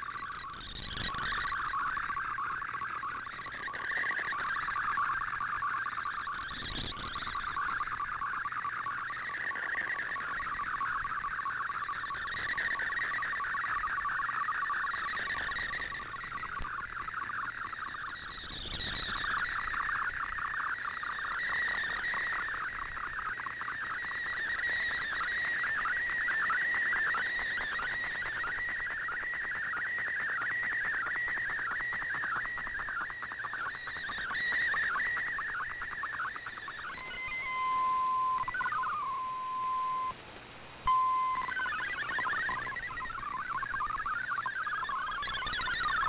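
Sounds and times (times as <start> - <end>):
warbling data signal tones: 0.0 - 40.2, 40.8 - 46.0
radio hiss: 0.0 - 46.0
static bursts: 0.0 - 46.0.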